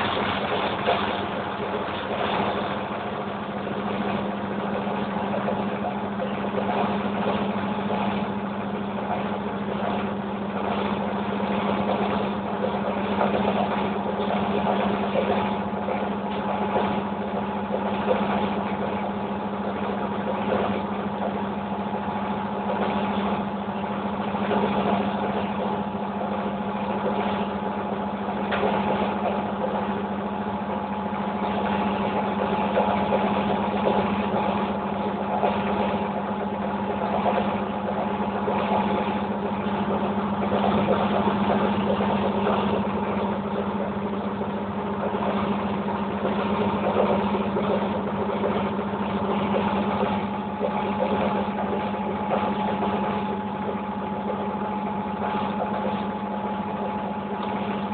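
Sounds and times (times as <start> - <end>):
washing machine humming: 0.0 - 57.9.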